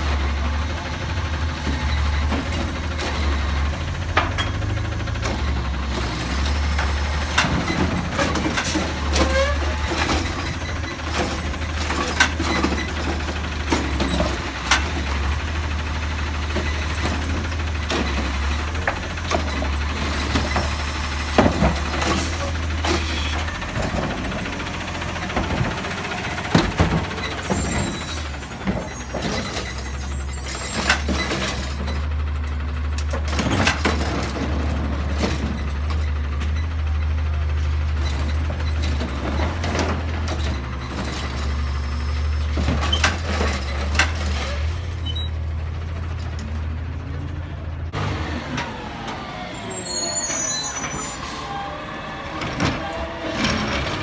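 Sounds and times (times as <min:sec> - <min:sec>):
garbage truck engine hum: 0:00.0 - 0:54.0.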